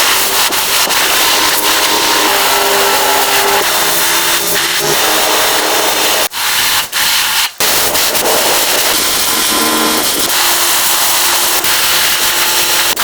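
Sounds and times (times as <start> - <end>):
power tool rasping on metal: 0.0 - 13.0.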